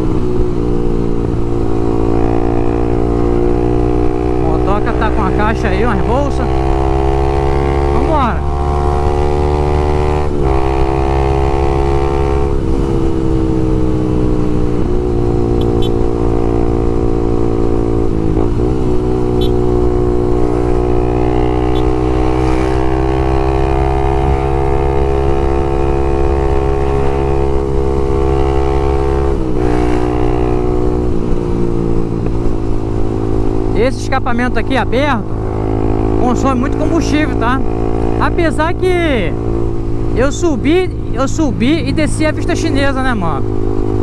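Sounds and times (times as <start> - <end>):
motorcycle engine running loud: 0.0 - 44.0.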